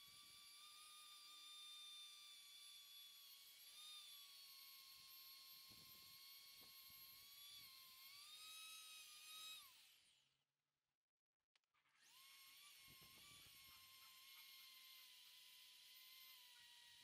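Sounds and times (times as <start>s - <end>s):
rotary tool high whine: 0.0s - 10.3s, 11.9s - 17.0s.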